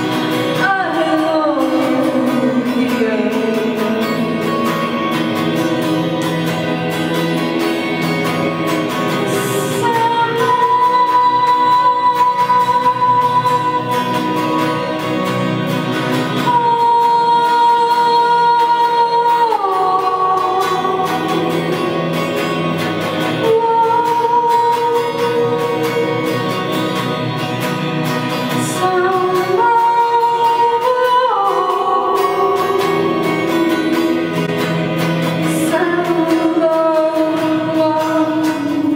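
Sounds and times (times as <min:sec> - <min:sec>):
electric guitar playing: 0:00.0 - 0:38.9
woman singing: 0:00.0 - 0:38.9.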